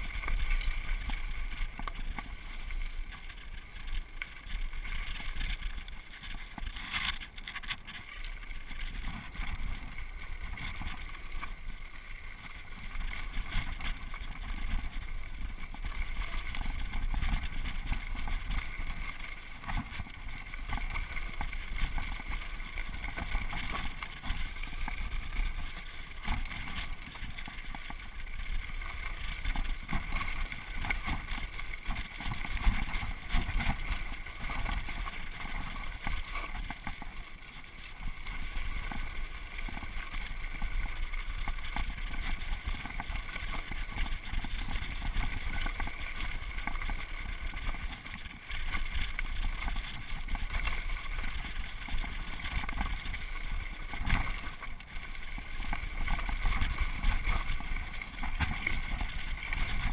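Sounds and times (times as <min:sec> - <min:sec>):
bike clicks and rattles: 0:00.0 - 0:59.9.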